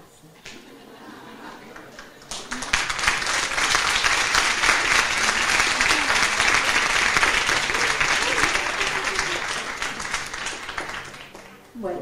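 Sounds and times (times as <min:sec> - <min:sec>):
audience clapping: 0:01.6 - 0:11.9.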